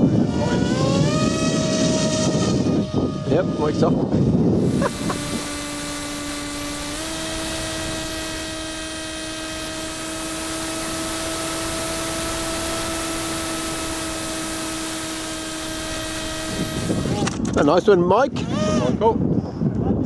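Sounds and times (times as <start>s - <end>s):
model aircraft motor whining: 0.0s - 19.4s
wind hiss on microphone: 0.0s - 20.0s.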